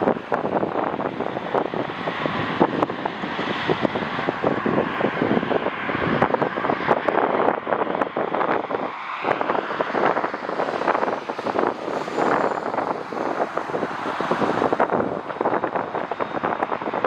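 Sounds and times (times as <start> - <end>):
jet airliner engines: 0.0 - 17.0
wind buffeting microphone: 0.0 - 17.0.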